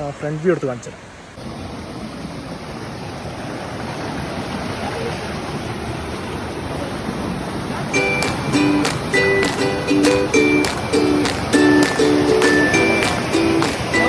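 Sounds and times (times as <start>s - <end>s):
waterfall rushing: 1.4s - 14.0s.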